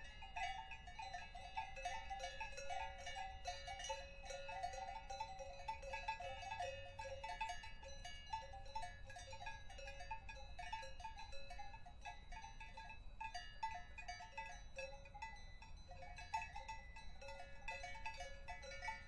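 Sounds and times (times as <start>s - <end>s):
cowbells clanking: 0.0s - 19.0s.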